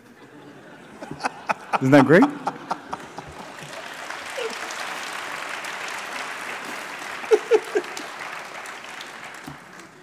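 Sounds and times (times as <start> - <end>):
audience applauding: 0.5 - 10.0.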